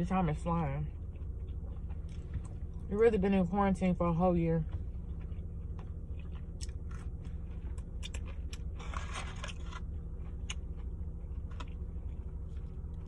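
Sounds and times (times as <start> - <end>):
steady low hum: 0.0 - 13.0
crunch of chewing: 0.3 - 2.9, 4.6 - 13.0
person chewing food: 0.4 - 2.9, 4.6 - 13.0.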